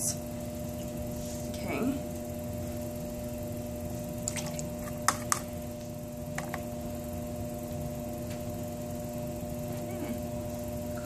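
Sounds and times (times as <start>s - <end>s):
potter's wheel motor humming: 0.0s - 11.0s.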